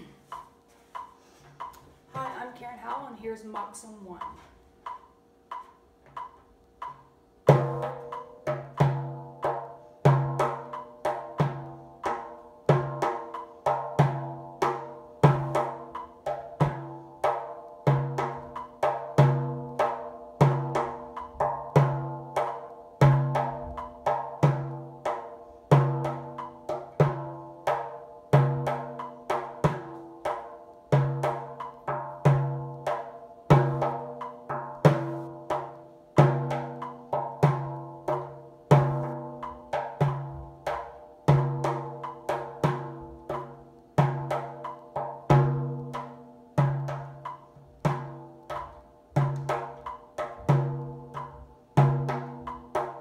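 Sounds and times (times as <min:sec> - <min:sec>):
frame drum rhythm: 0:00.0 - 0:53.0.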